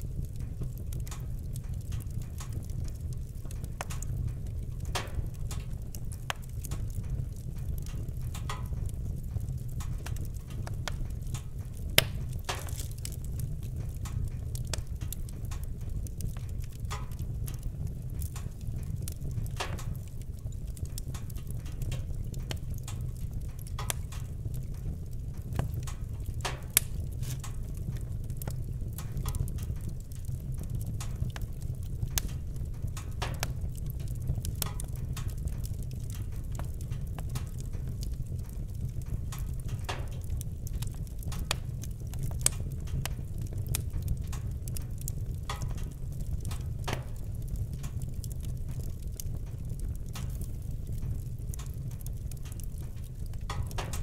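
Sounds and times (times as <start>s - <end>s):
logs crackling and popping: 0.0s - 54.0s
low rumble of flame: 0.0s - 54.0s.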